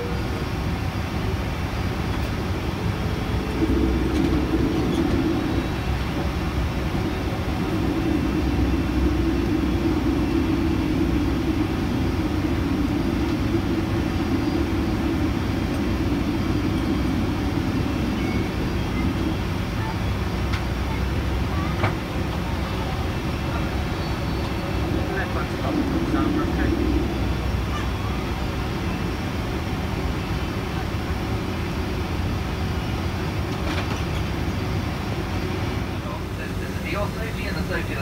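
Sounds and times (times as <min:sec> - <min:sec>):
aircraft cabin engine rumble: 0:00.0 - 0:38.0.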